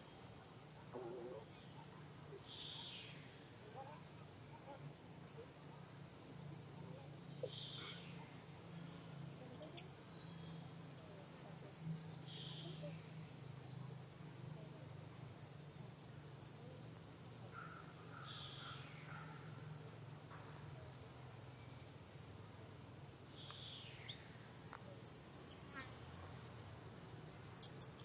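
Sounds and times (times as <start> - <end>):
faint low hum: 0.0 - 28.0
insects trilling: 0.0 - 28.0.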